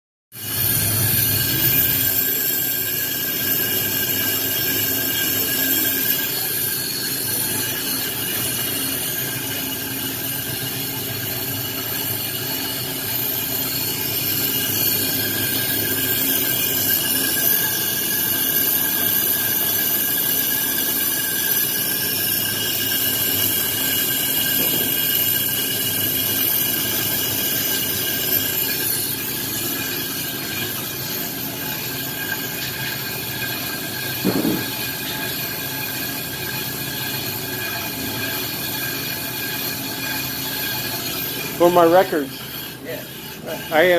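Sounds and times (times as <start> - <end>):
lathe motor running: 0.4 - 43.9
metallic squeal of cutting bit: 0.4 - 43.9.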